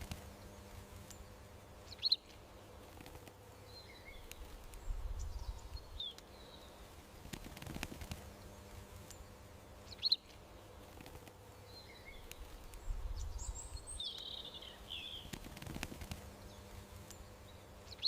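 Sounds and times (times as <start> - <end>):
faint outdoor hiss: 0.0 - 18.0
garden birds chirping: 0.0 - 18.0.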